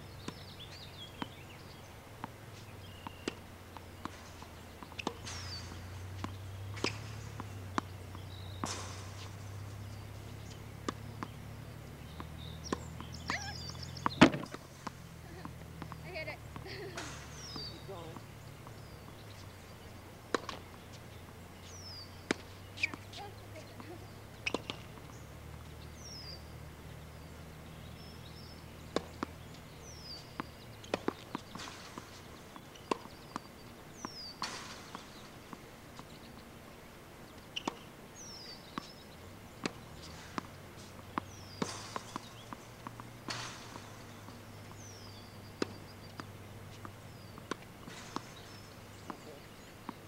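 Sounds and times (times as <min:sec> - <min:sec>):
tennis balls struck with racket: 0:00.0 - 0:50.0
balls bouncing on hard court: 0:00.2 - 0:26.5, 0:27.1 - 0:36.1, 0:39.6 - 0:50.0.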